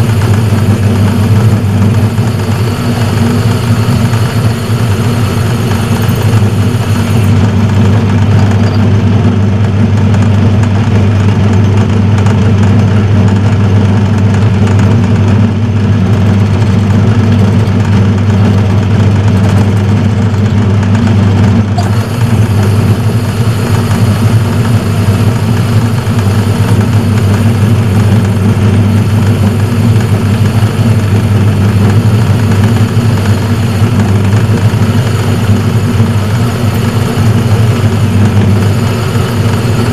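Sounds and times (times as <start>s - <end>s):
metal lathe motor humming: 0.0s - 39.9s.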